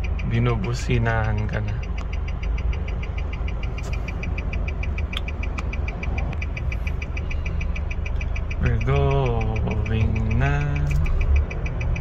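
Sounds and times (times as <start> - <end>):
car engine idling: 0.0 - 12.0
turn signal ticking: 0.0 - 12.0.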